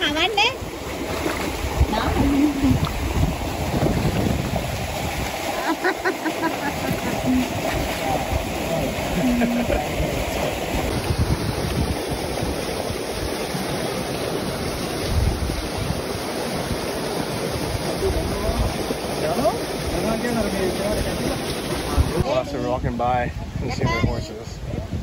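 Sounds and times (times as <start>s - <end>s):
wind buffeting microphone: 0.0s - 13.6s, 14.5s - 25.0s.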